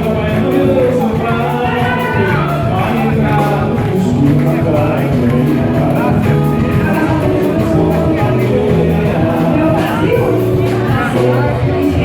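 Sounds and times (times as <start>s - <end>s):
person singing: 0.0s - 12.0s
steady beat: 0.0s - 12.0s
sustained bass notes: 0.0s - 12.0s.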